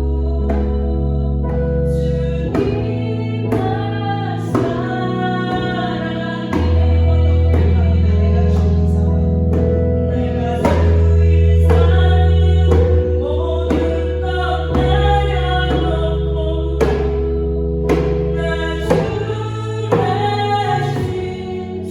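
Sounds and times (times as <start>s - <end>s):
deep sustained bass: 0.0s - 21.9s
held accompaniment chords: 0.0s - 21.9s
person singing: 0.0s - 21.9s.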